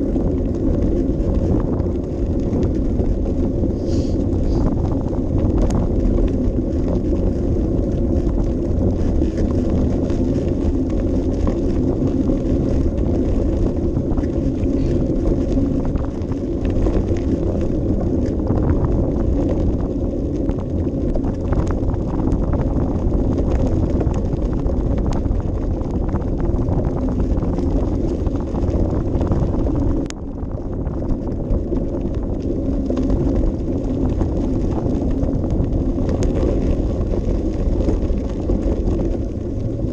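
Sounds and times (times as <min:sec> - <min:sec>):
bicycle tyres rolling: 0:00.0 - 0:39.9
wind buffeting microphone: 0:00.0 - 0:39.9.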